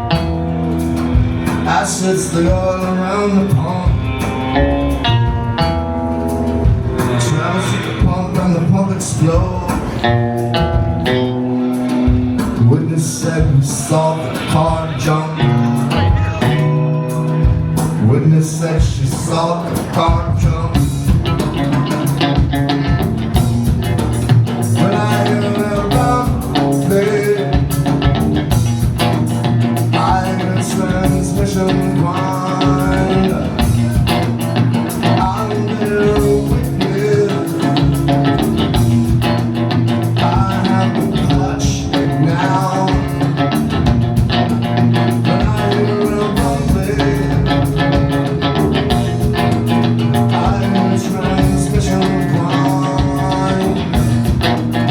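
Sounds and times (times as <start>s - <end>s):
live rock band instrumental: 0.0s - 54.9s.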